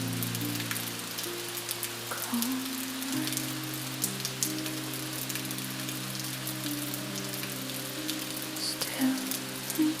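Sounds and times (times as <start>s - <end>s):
soft music of held notes: 0.0s - 10.0s
steady rain falling: 0.0s - 10.0s.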